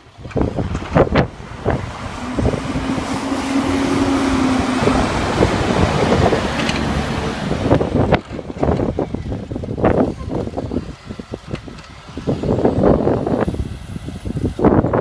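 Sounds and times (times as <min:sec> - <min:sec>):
steady hum: 0:00.0 - 0:14.8
rushing noise: 0:00.0 - 0:15.0
truck engine running: 0:00.0 - 0:15.0.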